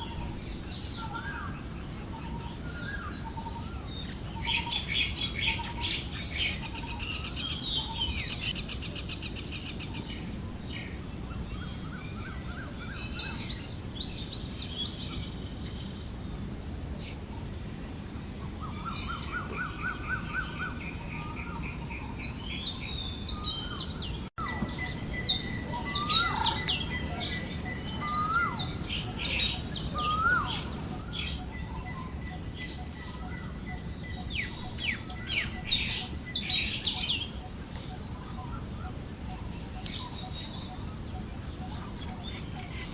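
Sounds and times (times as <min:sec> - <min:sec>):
birds chirping and trilling: 0:00.0 - 0:16.2, 0:16.9 - 0:42.9
high insect drone: 0:00.0 - 0:42.9
soft breeze: 0:00.0 - 0:42.9.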